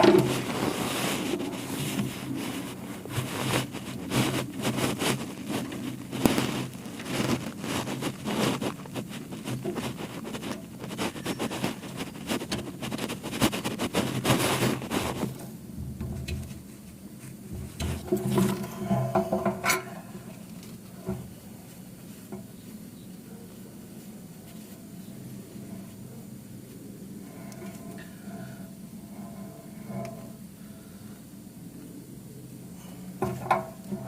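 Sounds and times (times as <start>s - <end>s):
hands clattering and rustling: 0.0s - 30.4s
steady low hum: 0.0s - 34.0s.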